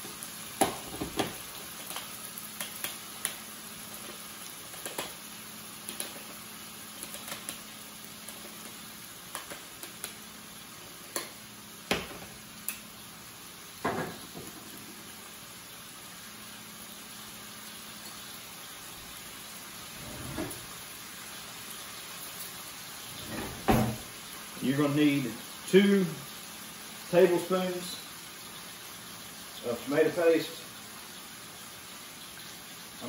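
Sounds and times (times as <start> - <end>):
meat sizzling in a skillet: 0.0 - 33.0.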